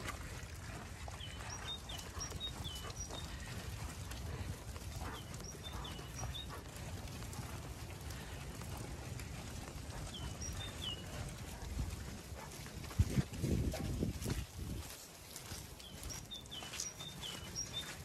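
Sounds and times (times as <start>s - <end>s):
low rumble of wind: 0.0s - 18.0s
sheep hooves on muddy ground: 0.0s - 18.0s
small birds chirping: 0.7s - 13.0s, 14.3s - 18.0s.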